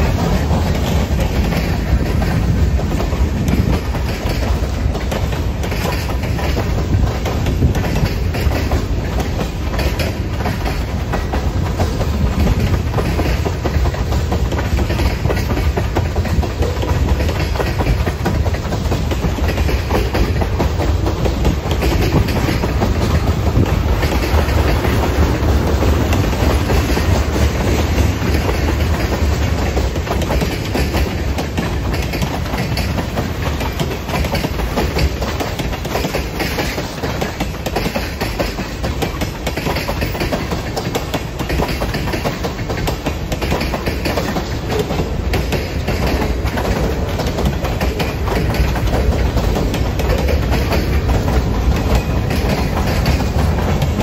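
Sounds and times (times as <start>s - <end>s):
train wheels rumbling on rails: 0.0s - 54.0s
wheels clicking over rail joints: 0.0s - 54.0s.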